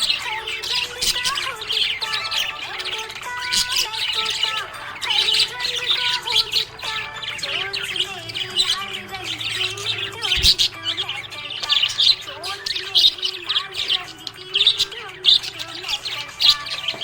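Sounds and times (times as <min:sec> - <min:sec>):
budgerigar chirping and warbling: 0:00.0 - 0:17.0.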